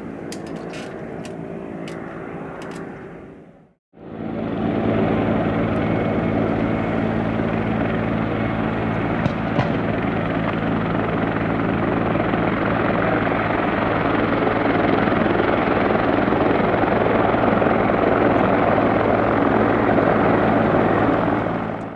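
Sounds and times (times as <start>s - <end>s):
turboprop engines droning: 0.0s - 21.9s.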